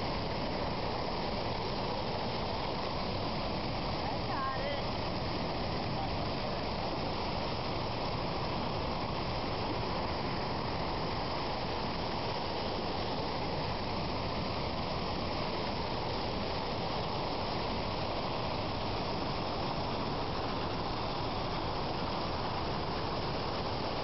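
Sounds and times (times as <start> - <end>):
floodwater rushing down creek: 0.0 - 24.0.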